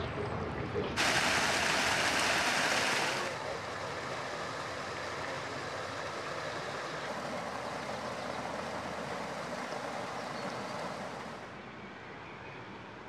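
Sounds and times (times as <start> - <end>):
water rushing: 1.0 - 11.5.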